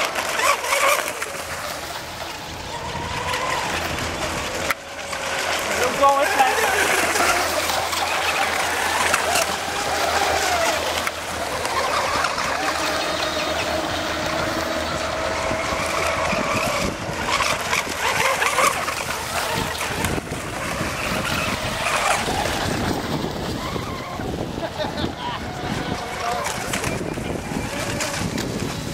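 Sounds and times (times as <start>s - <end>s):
electric boat motors whining: 0.0s - 28.9s.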